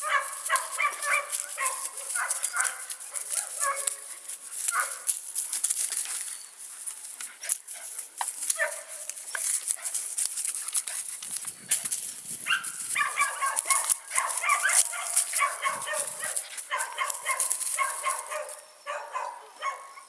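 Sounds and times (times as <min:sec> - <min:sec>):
dry leaves crackling underfoot: 0:00.0 - 0:18.7.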